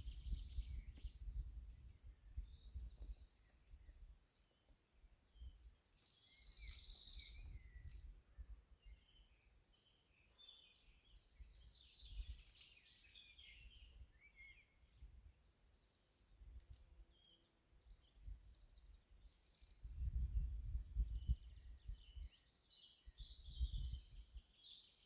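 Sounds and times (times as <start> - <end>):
faint songbird song: 0.0 - 25.0.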